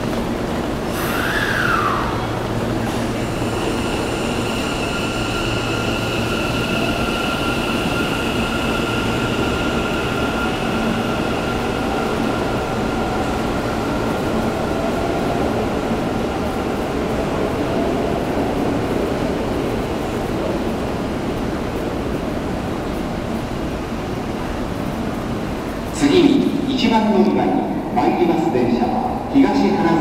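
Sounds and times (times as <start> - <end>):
train wheels rumbling: 0.0 - 30.0.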